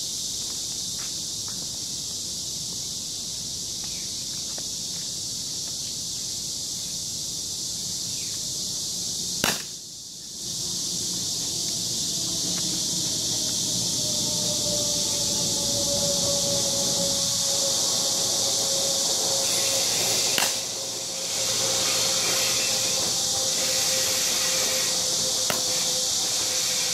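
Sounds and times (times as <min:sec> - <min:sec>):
high buzz of insects: 0:00.0 - 0:26.9.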